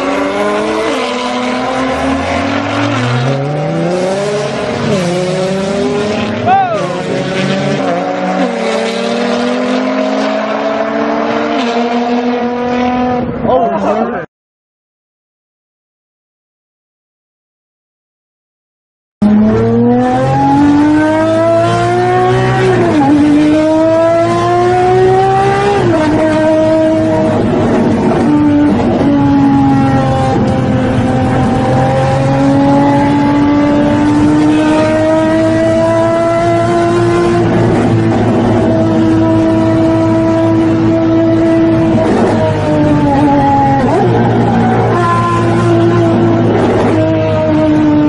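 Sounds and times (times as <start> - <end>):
car engine accelerating hard: 0.0 - 14.1, 19.2 - 48.0.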